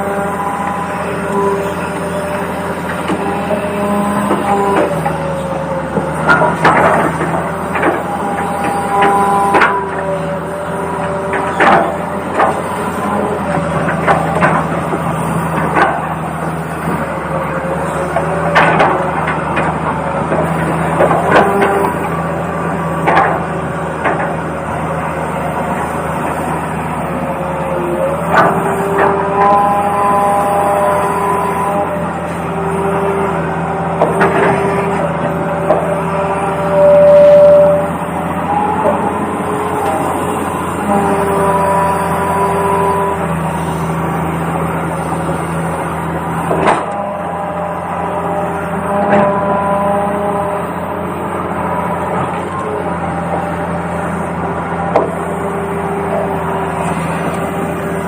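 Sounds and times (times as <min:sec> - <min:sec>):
toy excavator motors whining: 0:00.0 - 0:58.0.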